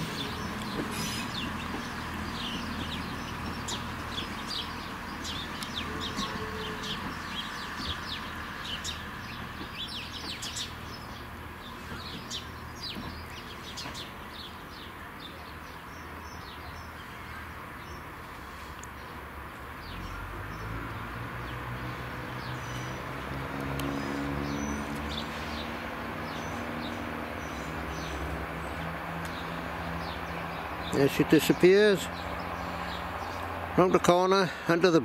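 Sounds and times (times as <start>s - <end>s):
diesel train rumble: 0.0s - 35.0s
small birds chirping: 0.0s - 35.0s.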